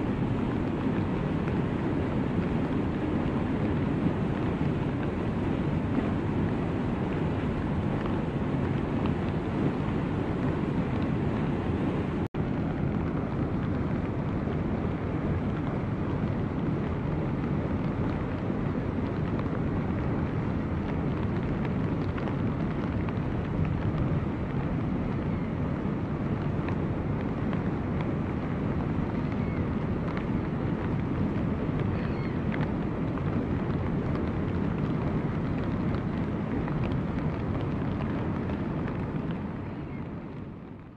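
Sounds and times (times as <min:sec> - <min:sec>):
water rushing with ice floes: 0:00.0 - 0:40.7.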